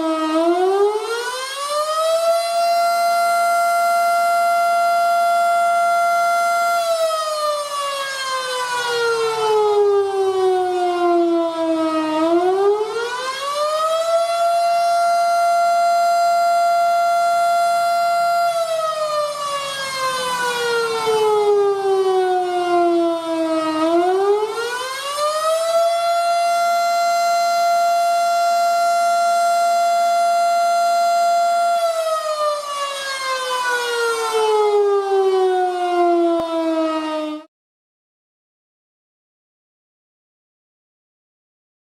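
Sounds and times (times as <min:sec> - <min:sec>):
wailing warning siren: 0:00.0 - 0:37.5.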